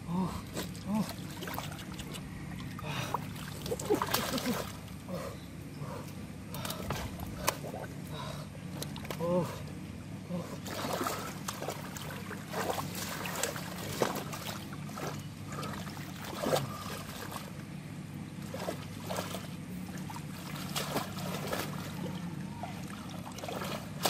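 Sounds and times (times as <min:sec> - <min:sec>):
steady low background noise: 0:00.0 - 0:24.0
water splashing and sloshing: 0:00.3 - 0:05.3, 0:05.9 - 0:24.0.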